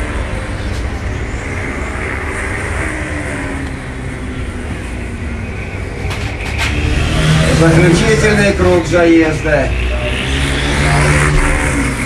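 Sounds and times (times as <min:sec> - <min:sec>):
motorcycle engines racing: 0:00.0 - 0:12.0.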